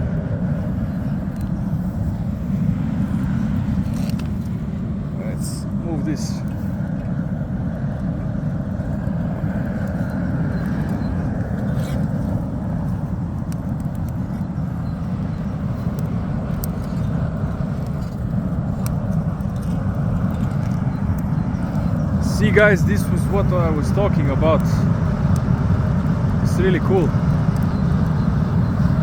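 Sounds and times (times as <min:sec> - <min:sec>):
faint fire crackles: 0:00.0 - 0:29.0
fire rushing rumble: 0:00.0 - 0:29.0.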